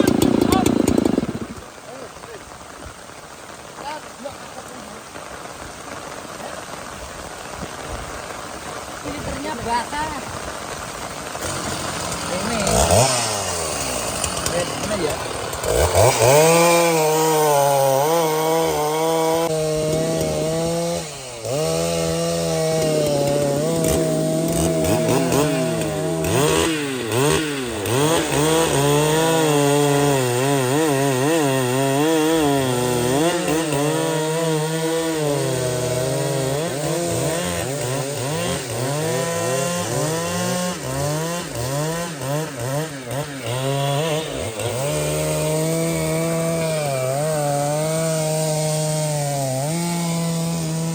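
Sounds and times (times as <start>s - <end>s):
chainsaw cutting through wood: 0.0s - 50.9s.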